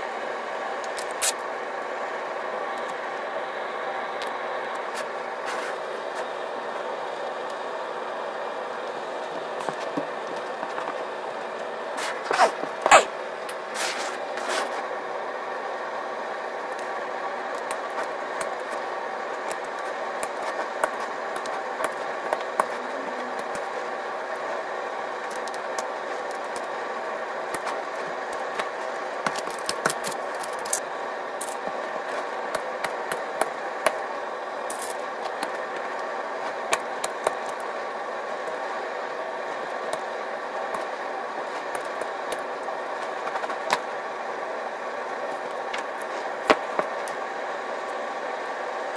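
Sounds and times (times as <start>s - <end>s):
steady background hum: 0.0s - 48.9s.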